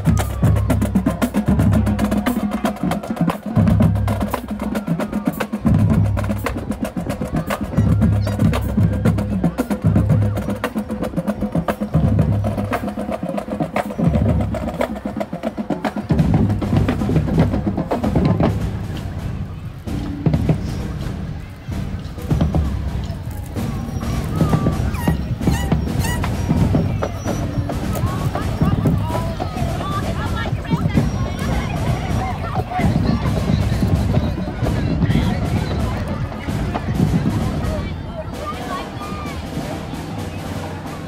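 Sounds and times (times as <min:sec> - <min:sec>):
snare drum strokes and rim clicks: 0:00.0 - 0:41.0.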